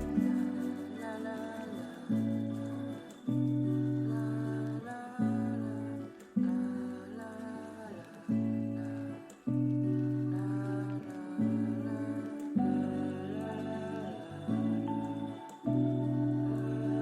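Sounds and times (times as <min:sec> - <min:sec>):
instrumental music with chords: 0:00.0 - 0:17.0.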